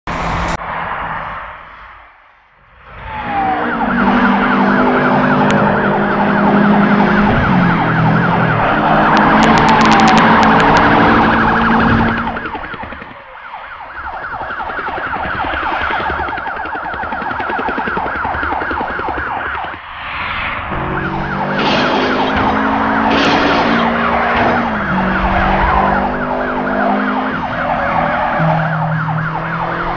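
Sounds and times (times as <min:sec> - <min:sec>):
police sirens yelping: 0:02.9 - 0:19.8, 0:20.7 - 0:29.9.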